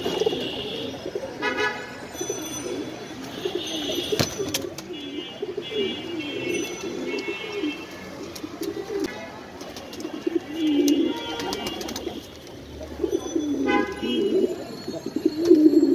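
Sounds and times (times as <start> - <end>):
pigeons cooing: 0.0 - 9.1, 9.7 - 15.9.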